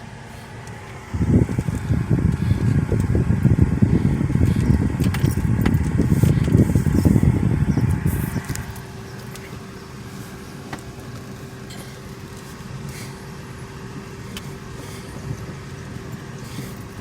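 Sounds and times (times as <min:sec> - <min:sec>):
car road and engine rumble: 0:00.0 - 0:17.0
faint constant hum: 0:00.0 - 0:17.0.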